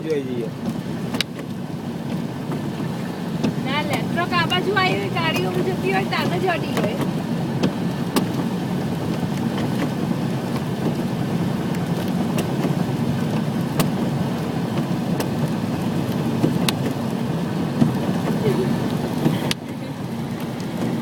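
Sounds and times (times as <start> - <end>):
road vehicle engine and tyres: 0.0 - 21.0.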